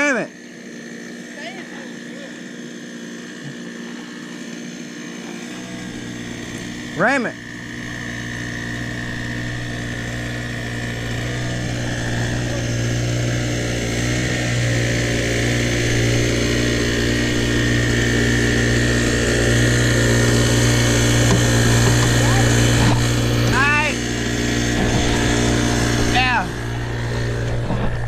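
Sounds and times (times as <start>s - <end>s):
boat motor running: 0.0s - 28.0s.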